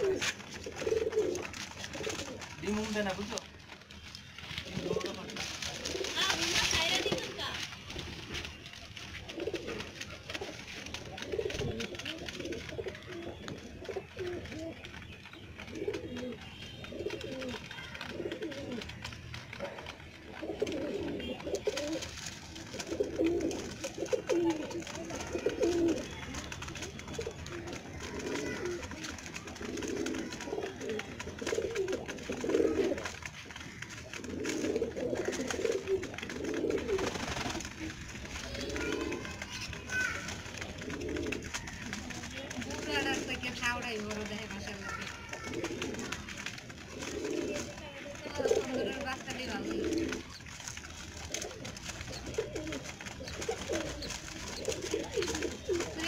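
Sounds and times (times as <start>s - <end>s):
pigeons cooing: 0.0s - 56.0s.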